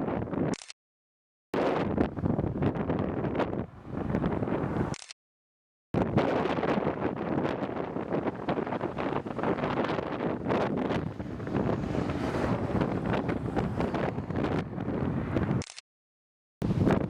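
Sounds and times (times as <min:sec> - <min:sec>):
gusty wind buffeting microphone: 0:00.0 - 0:00.6, 0:01.6 - 0:05.0, 0:06.0 - 0:15.7, 0:16.6 - 0:17.0.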